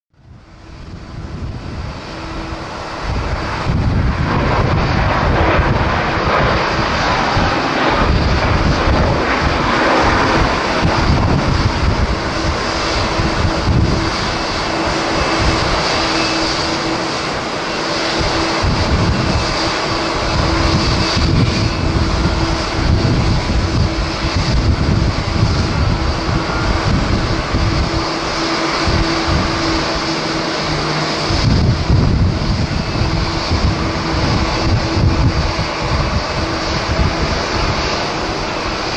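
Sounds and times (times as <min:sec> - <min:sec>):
wind rumbling on microphone: 0:00.1 - 0:38.9
jet engines running: 0:00.2 - 0:38.9.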